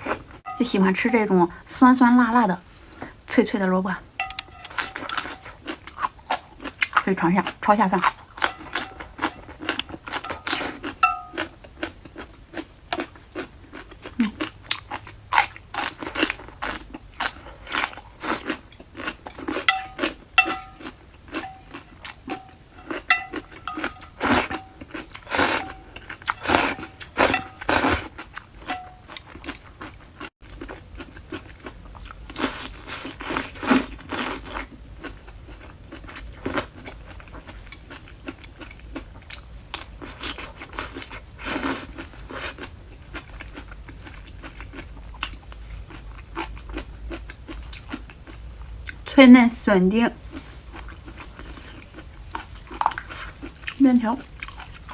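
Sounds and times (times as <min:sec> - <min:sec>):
chewing crisp vegetables: 0:04.2 - 0:49.2, 0:50.0 - 0:54.9.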